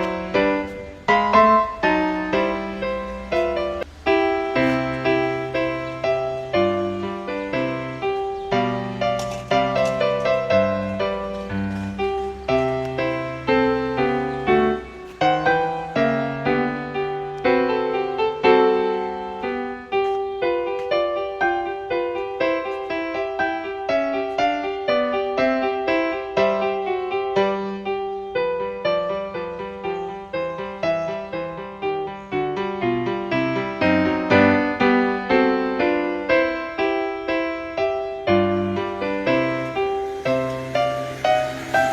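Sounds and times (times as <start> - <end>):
gentle piano music: 0.0 - 41.9.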